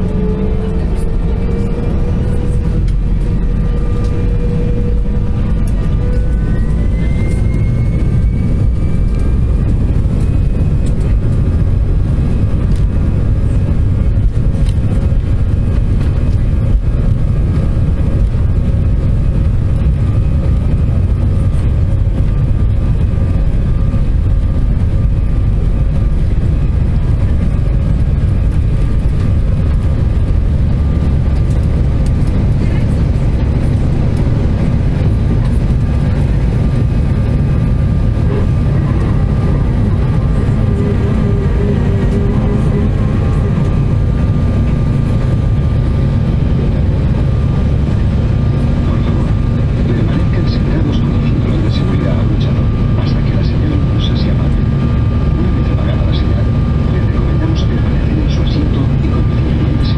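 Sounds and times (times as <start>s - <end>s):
heavy steady cabin rumble: 0.0s - 59.9s
jet engine whine: 0.0s - 59.9s.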